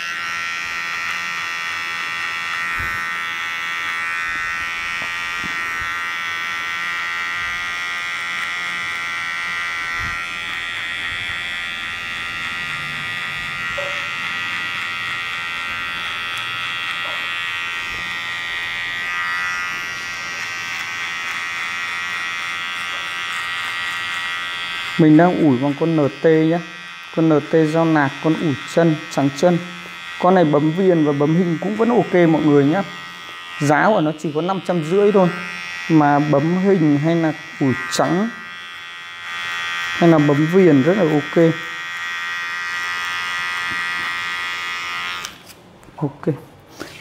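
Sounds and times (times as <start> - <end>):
electric hair clipper buzzing: 0.0 - 45.7.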